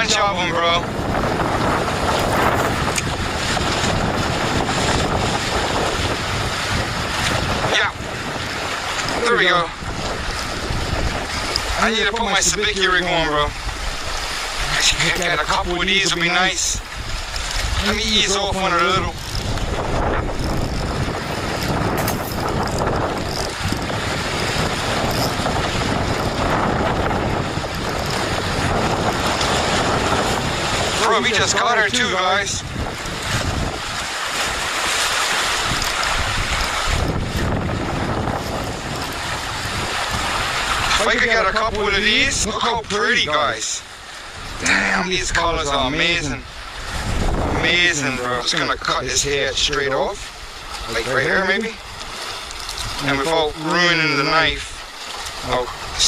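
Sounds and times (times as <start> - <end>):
wind buffeting the microphone: 0.0 - 56.0.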